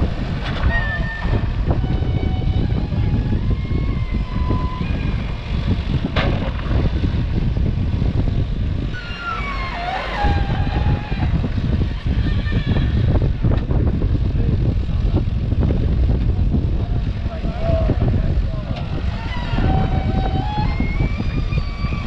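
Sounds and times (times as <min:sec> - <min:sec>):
diesel engine low rumble: 0:00.0 - 0:22.0.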